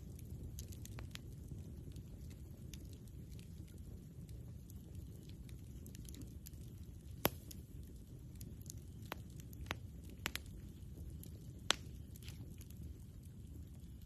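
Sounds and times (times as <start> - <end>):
campfire low rumble: 0.0 - 14.0
wood crackles and pops: 0.0 - 14.0.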